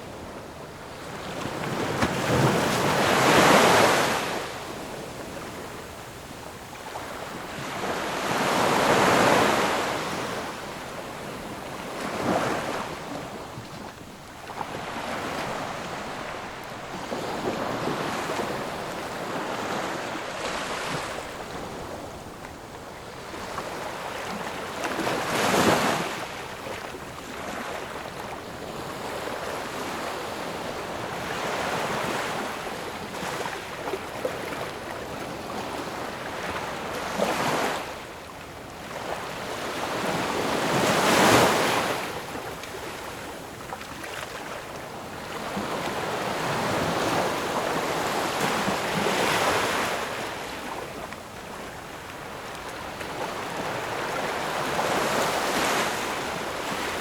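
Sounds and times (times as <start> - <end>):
ocean waves on shore: 0.0 - 57.0.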